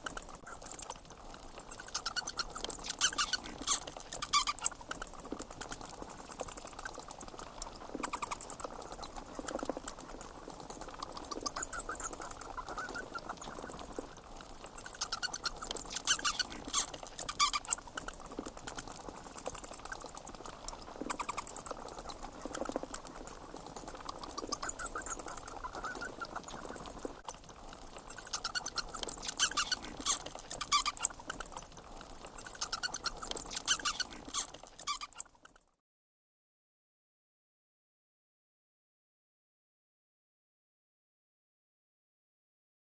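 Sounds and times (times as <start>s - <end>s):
bats squeaking: 0.0s - 35.7s.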